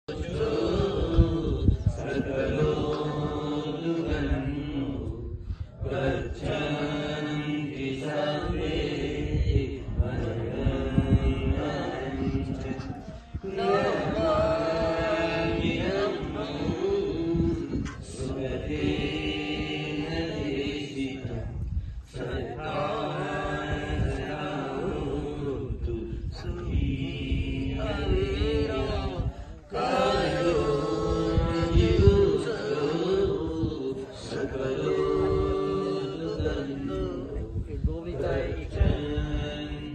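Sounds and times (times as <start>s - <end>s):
voices chanting long notes: 0.1s - 21.5s, 22.1s - 37.4s.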